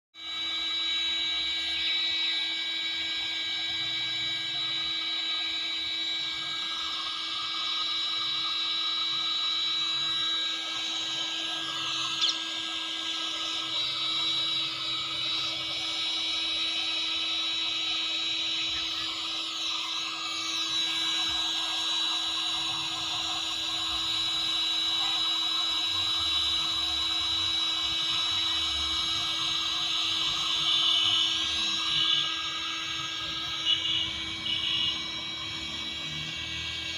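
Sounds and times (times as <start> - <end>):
heat gun fan whining: 0.2 - 36.9.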